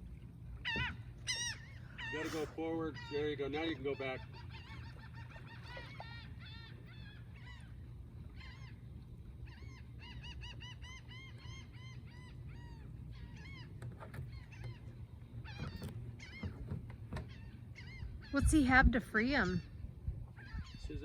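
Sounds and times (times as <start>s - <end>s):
low steady rumble: 0.0s - 21.0s
gull honking calls: 0.6s - 21.0s.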